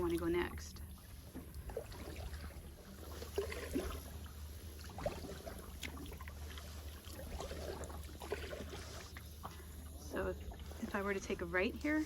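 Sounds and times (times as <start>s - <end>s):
paddle splashing in water: 0.9s - 12.0s.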